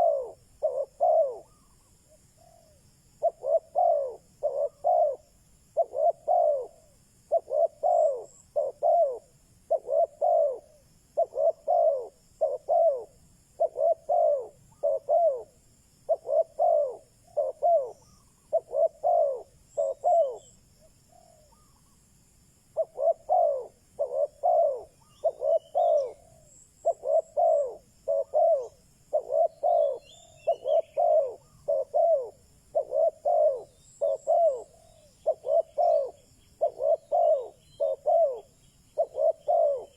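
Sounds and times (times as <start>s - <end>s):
dove cooing: 0.0s - 22.0s, 22.7s - 39.9s.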